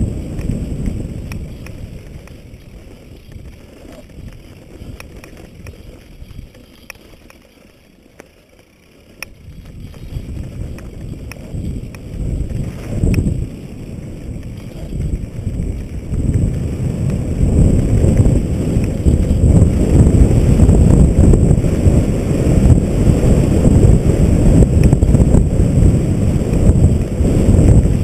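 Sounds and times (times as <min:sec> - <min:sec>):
wind buffeting microphone: 0:00.0 - 0:07.3, 0:09.2 - 0:28.0
bike and stones clicking and rattling: 0:00.0 - 0:28.0
bike tyres rumbling on rocky trail: 0:00.0 - 0:28.0.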